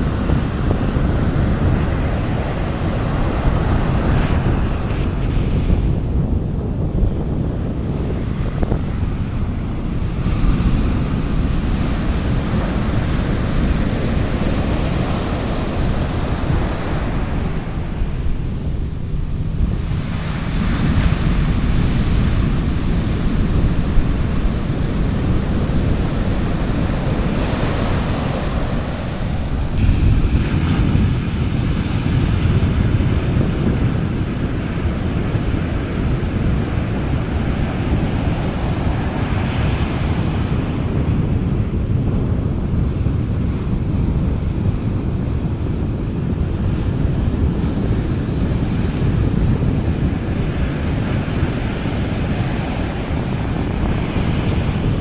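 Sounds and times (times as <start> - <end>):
sea waves breaking: 0.0 - 44.7, 45.4 - 55.0
wind rumble on microphone: 0.0 - 55.0.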